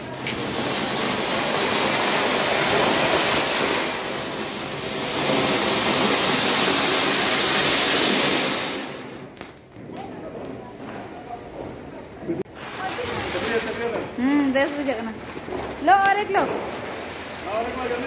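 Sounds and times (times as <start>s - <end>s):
firework spraying sparks hiss: 0.0s - 10.6s, 12.5s - 18.0s.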